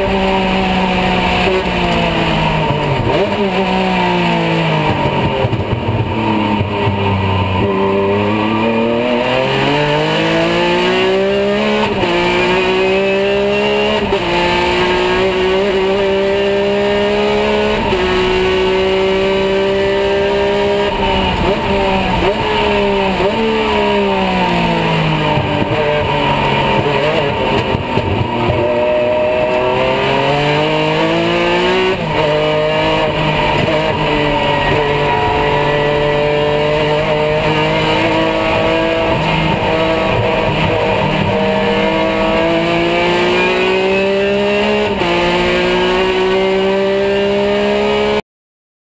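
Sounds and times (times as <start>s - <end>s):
race car engine revving: 0.0s - 48.2s.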